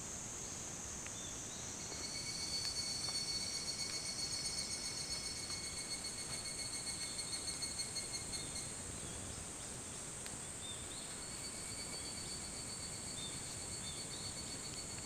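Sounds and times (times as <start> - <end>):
cicadas ringing and chirping: 0.1 - 15.0.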